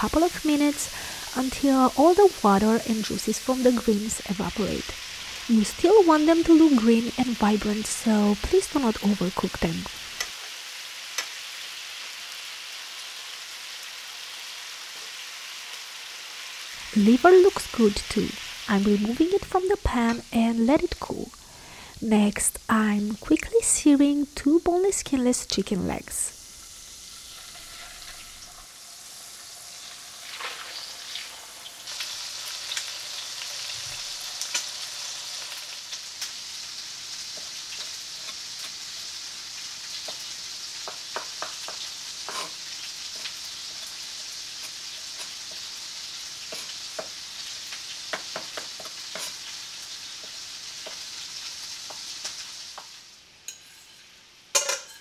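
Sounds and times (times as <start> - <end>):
chicken sizzling in a skillet: 0.0 - 55.0.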